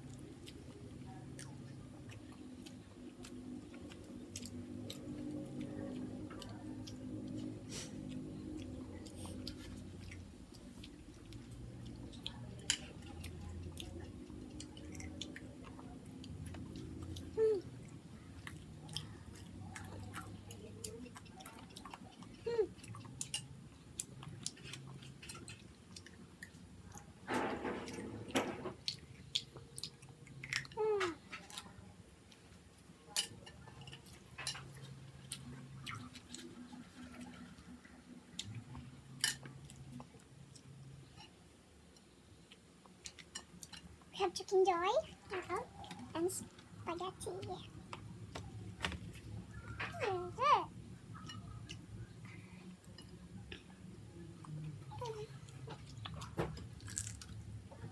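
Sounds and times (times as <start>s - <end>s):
children chewing: 0.0s - 44.2s, 45.0s - 57.9s.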